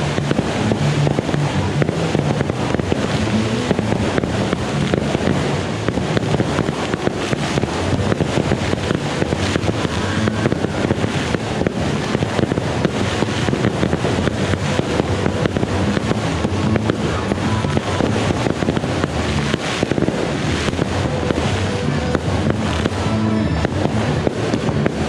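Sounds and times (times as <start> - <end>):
fireworks crackling and popping: 0.0 - 25.0
fireworks rumble: 0.0 - 25.0.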